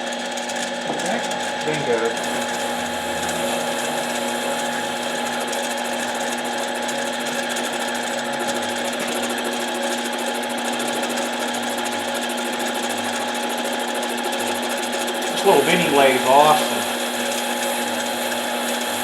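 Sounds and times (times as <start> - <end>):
lathe motor whining: 0.1 - 19.0.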